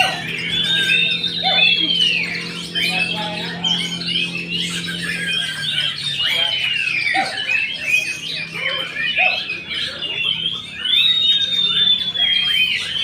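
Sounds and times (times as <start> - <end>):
steady low hum: 0.0 - 10.8
bird downward-sliding whistles: 0.0 - 13.0
bird singing chirps and squawks: 0.0 - 13.0.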